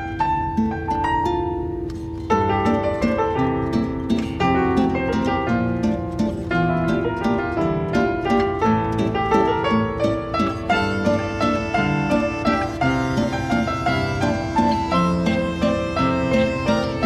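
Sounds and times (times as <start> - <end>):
plucked string notes: 0.0 - 17.0.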